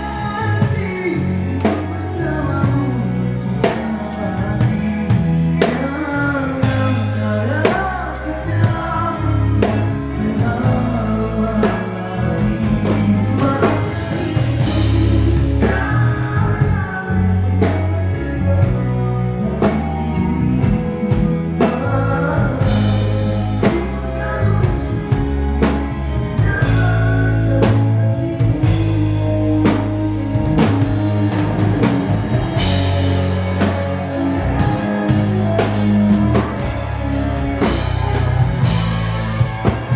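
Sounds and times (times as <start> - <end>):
bass guitar: 0.0 - 39.9
drum kit beat: 0.0 - 39.9
electric guitar: 0.0 - 39.9
person singing: 0.0 - 39.9.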